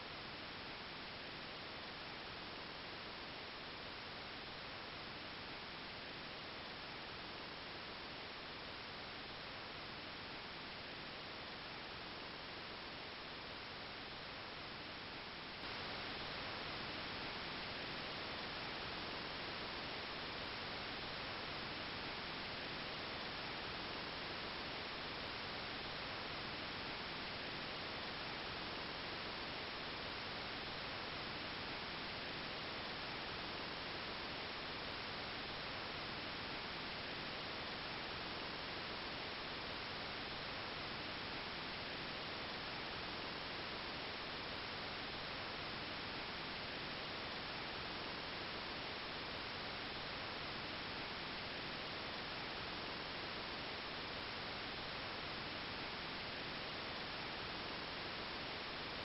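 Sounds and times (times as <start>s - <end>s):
static-like hiss: 0.0s - 59.0s.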